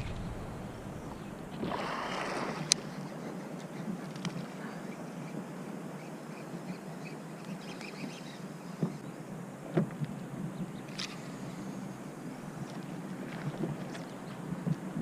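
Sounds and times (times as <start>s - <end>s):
water around a kayak: 0.0s - 15.0s
wind: 0.0s - 15.0s.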